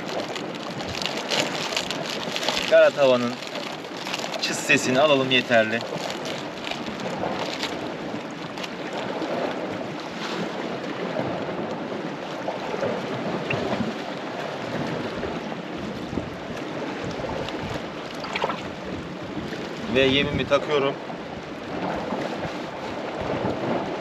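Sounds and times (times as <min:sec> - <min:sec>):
sea waves washing on rocks: 0:00.0 - 0:24.0
wind noise on microphone: 0:00.0 - 0:24.0.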